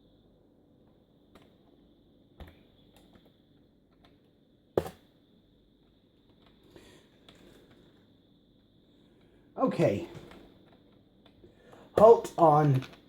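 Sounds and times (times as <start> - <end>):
faint high-pitched electronic whine: 0.0 - 13.0.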